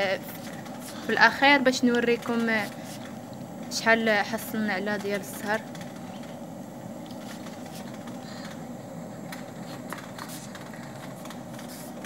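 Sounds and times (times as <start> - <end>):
still boiling with rumbling hiss: 0.0 - 12.0.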